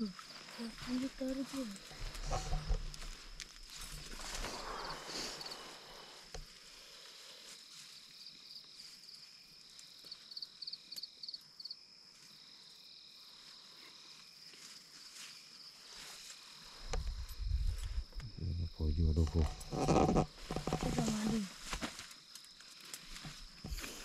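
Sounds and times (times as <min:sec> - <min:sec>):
rustle: 0:00.0 - 0:18.3, 0:19.2 - 0:24.0
crickets trilling: 0:00.0 - 0:24.0
insect quick chirps: 0:00.0 - 0:24.0.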